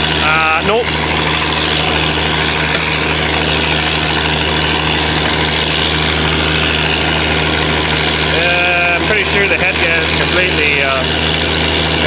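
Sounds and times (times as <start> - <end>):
feed grinder grinding corn: 0.0 - 12.0
tractor engine running: 0.0 - 12.0.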